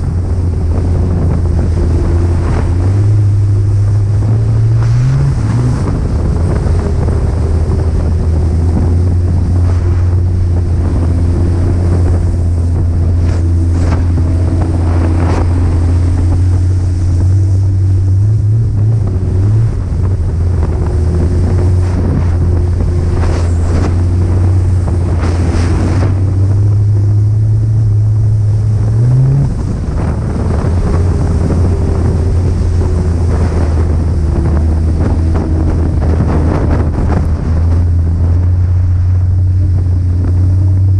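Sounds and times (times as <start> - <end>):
snowmobile engine running: 0.0 - 40.9
wind buffeting microphone: 0.0 - 40.9.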